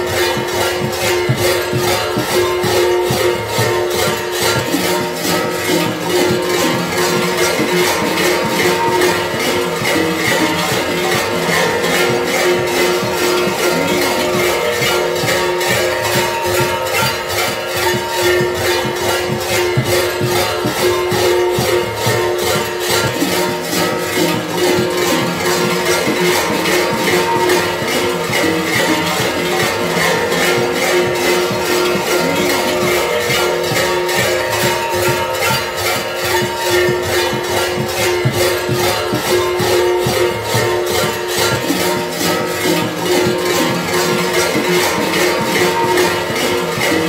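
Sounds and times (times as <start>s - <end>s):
large metal bells clanging: 0.0s - 47.0s.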